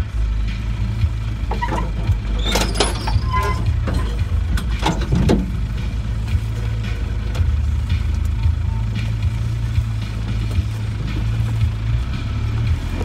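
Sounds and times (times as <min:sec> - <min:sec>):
diesel engine in low gear: 0:00.0 - 0:13.0
vehicle clunks and scrapes: 0:00.3 - 0:13.0.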